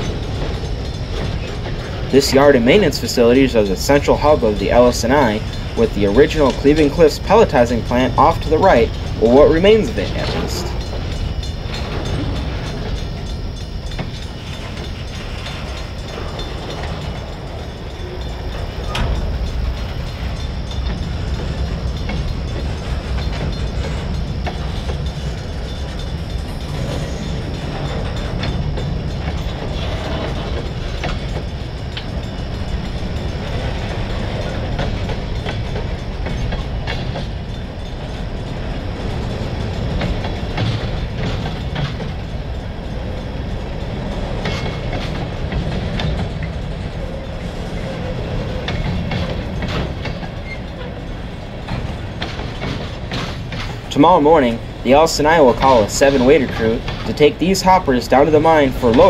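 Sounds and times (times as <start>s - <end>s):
freight train rumbling: 0.0s - 59.0s
wheels clicking over rail joints: 0.0s - 59.0s.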